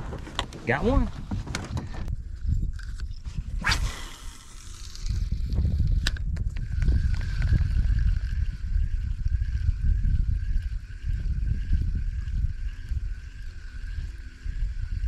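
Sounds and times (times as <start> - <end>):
wind rumble on microphone: 0.0 - 15.0
spinning reel whirring: 2.7 - 15.0.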